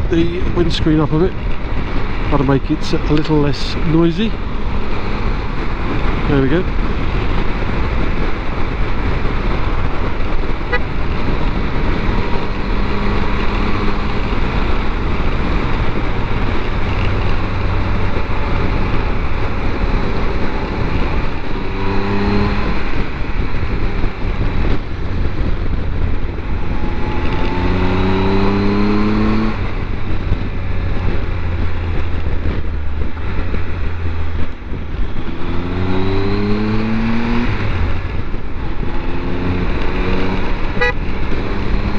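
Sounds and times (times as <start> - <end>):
motorcycle engine accelerating: 0.0 - 41.9
wind and road rush: 0.0 - 41.9.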